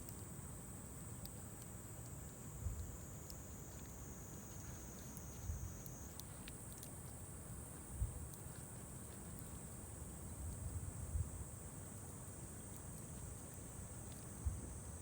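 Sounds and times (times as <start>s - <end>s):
insects chirring: 0.1s - 15.0s.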